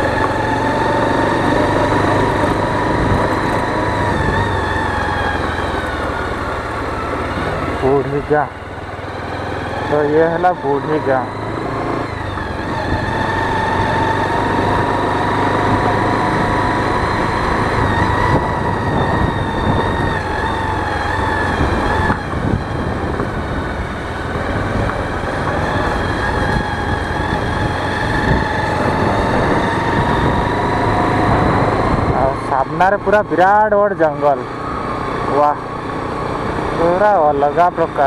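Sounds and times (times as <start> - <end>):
motorcycle engine whine: 0.0 - 38.0
road and wind noise: 0.0 - 38.0.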